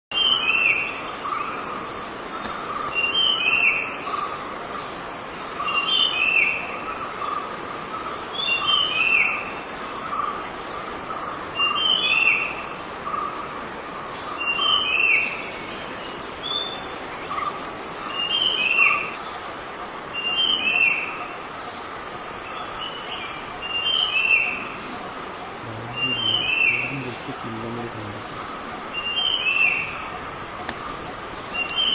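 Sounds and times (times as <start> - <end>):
steady background noise: 0.1 - 31.9.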